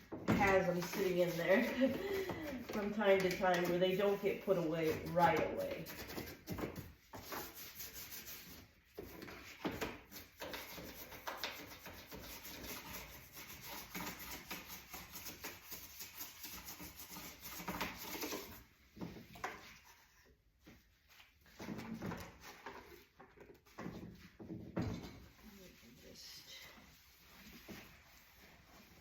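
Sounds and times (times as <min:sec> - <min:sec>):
scrubbing inside dishwasher: 0:00.0 - 0:29.0.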